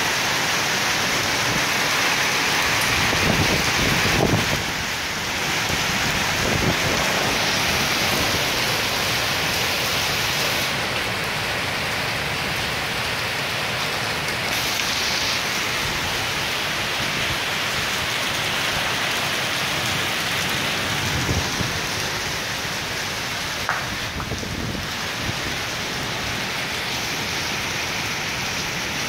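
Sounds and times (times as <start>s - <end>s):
heavy rain on pavement: 0.0s - 29.0s.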